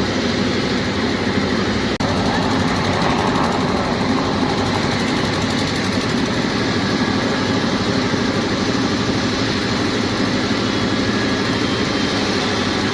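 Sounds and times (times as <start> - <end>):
jet engines running: 0.0 - 12.9.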